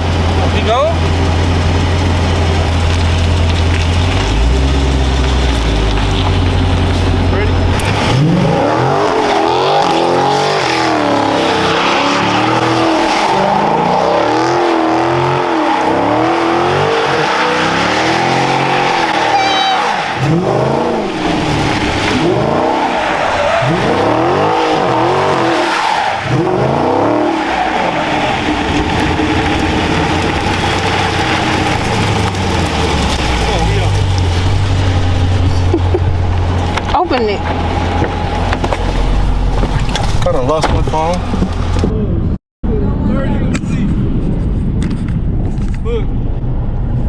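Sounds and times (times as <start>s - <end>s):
car engine revving: 0.0s - 41.9s
tyres skidding and squealing: 0.0s - 42.3s.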